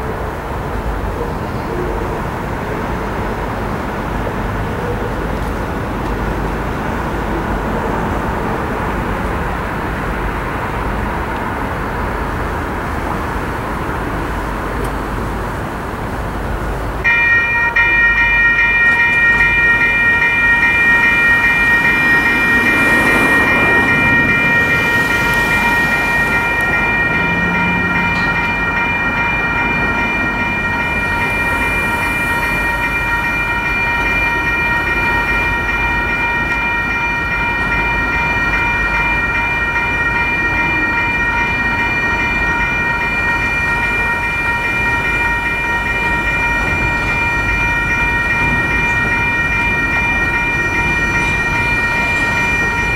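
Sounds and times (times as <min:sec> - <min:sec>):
railroad crossing bells ringing: 0:00.0 - 0:52.9.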